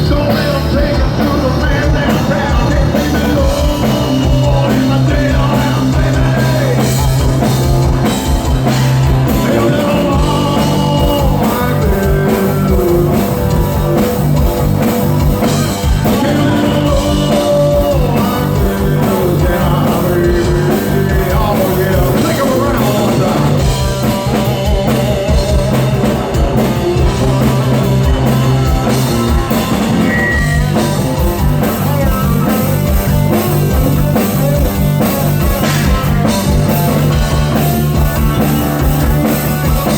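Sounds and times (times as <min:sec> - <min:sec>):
drum kit beat: 0:00.0 - 0:39.9
person singing: 0:00.0 - 0:39.9
rock band playing: 0:00.0 - 0:39.9.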